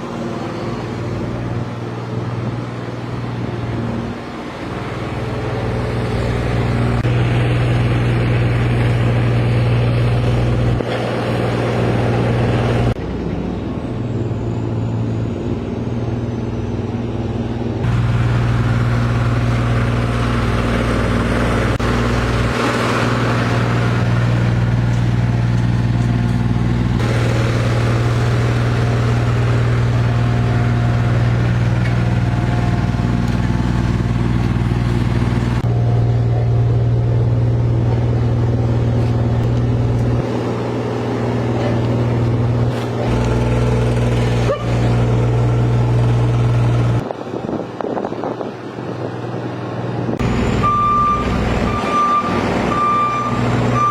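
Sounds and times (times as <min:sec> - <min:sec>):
heavy machinery engine hum: 0:00.0 - 0:53.9.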